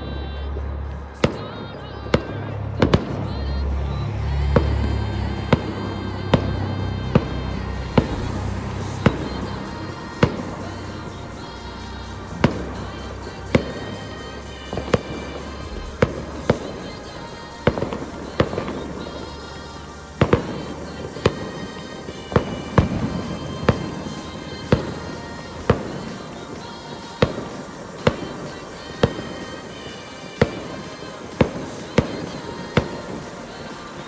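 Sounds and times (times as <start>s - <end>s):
music playing: 0.0s - 34.0s
fireworks bangs: 1.2s - 34.0s.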